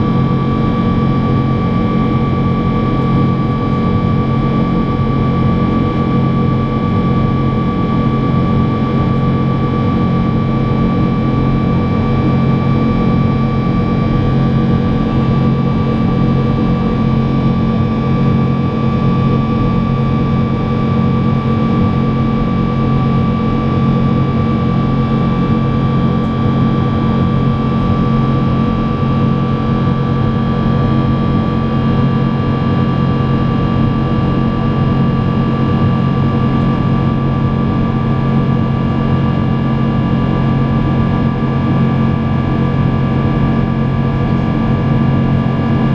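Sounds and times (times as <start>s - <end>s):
jet engines droning in cabin: 0.0s - 45.9s.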